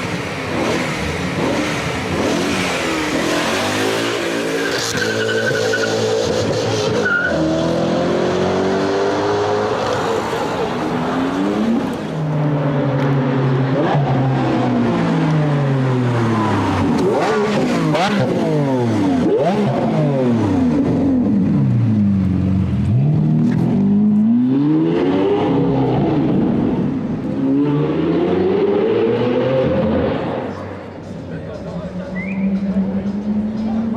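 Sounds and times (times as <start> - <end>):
sports car engine revving: 0.0 - 10.0, 10.8 - 33.9.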